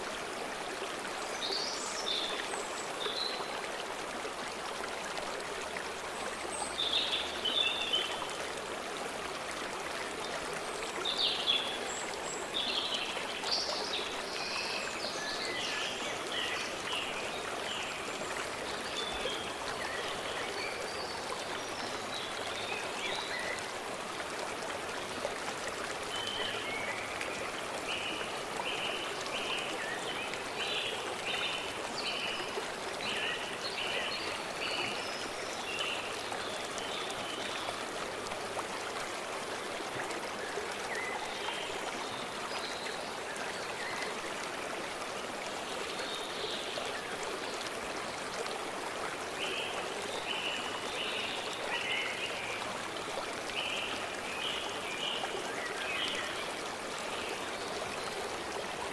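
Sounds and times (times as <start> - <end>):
stream flowing over rocks: 0.0 - 58.9.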